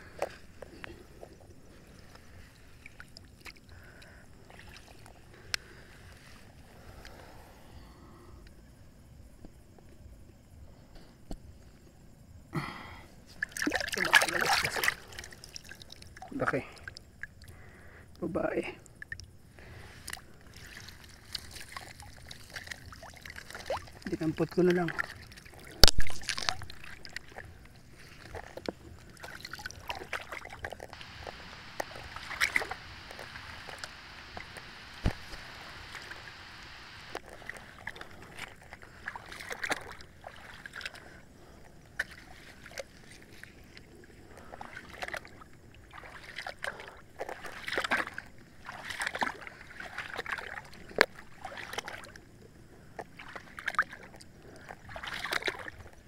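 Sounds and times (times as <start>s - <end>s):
water sloshing and splashing: 0.0s - 7.5s, 13.2s - 36.3s, 37.1s - 56.0s.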